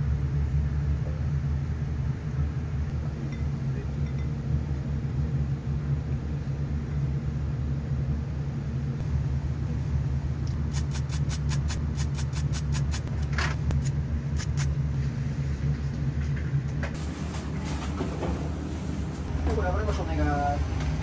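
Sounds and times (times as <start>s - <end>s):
low kitchen hum: 0.0s - 21.0s.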